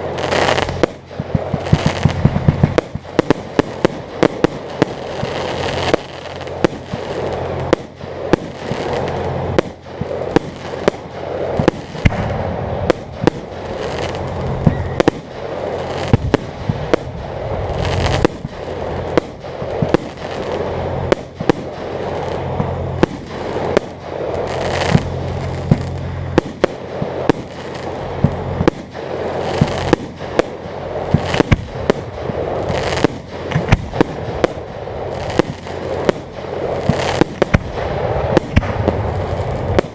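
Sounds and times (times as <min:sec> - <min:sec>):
firework shell bursts: 0:00.0 - 0:39.9
fireworks crackling: 0:00.0 - 0:39.9
low steady hum: 0:00.0 - 0:39.9.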